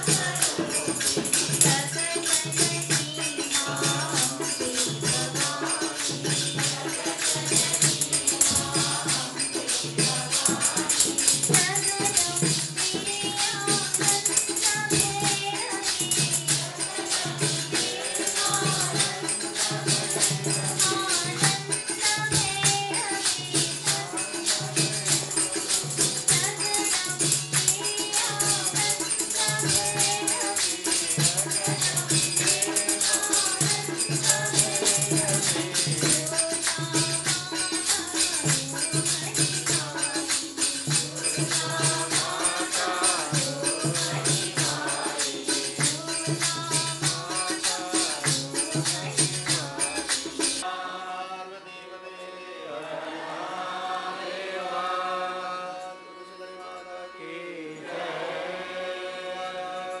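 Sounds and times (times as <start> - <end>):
devotional singing and chanting: 0.0 - 60.0.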